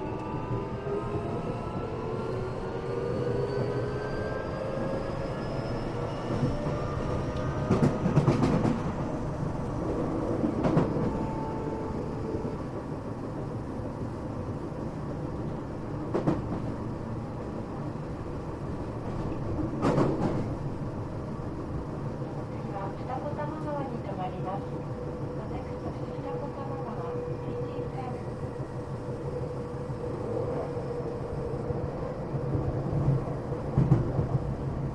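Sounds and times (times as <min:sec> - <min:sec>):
wheels rumbling on rail: 0:00.0 - 0:34.9.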